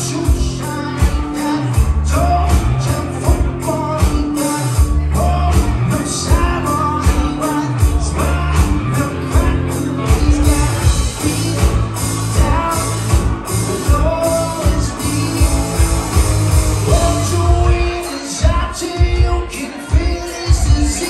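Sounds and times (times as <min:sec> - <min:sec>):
live band playing: 0:00.0 - 0:21.0
person singing: 0:00.0 - 0:21.0.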